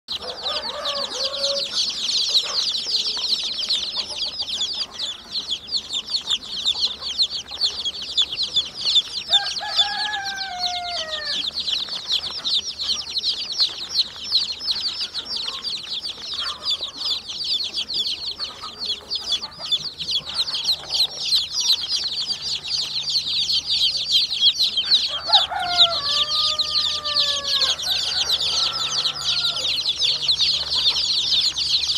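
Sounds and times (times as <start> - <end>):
chicks peeping: 0.1 - 31.9.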